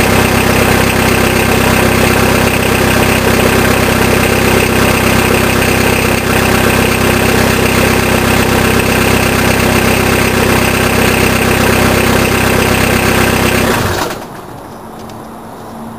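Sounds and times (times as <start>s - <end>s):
diesel engine idling: 0.0s - 14.6s.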